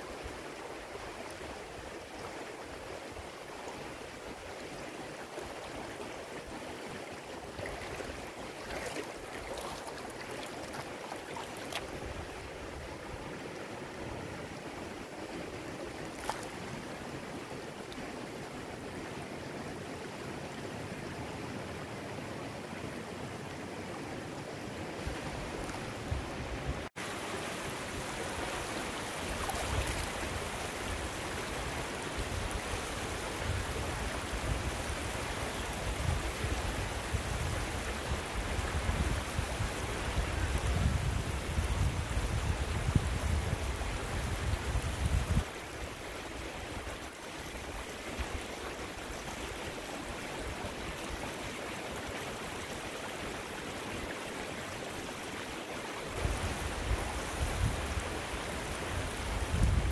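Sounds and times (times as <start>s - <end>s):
stream water flowing over rocks: 0.0s - 59.9s.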